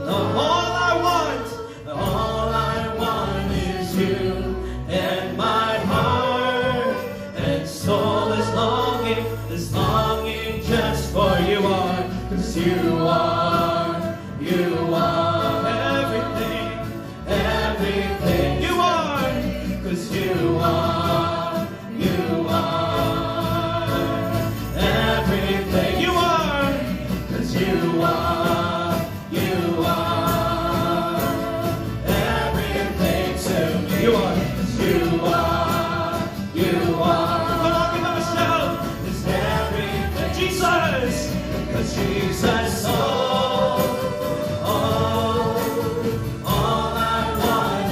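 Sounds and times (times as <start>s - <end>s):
accompaniment with bass line: 0.0s - 47.9s
voices singing worship song: 0.0s - 47.9s.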